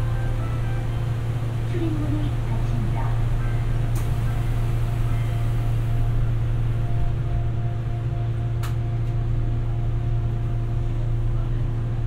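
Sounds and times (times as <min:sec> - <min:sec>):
faint steady hum: 0:00.0 - 0:12.0
subway car rumble: 0:00.0 - 0:12.0.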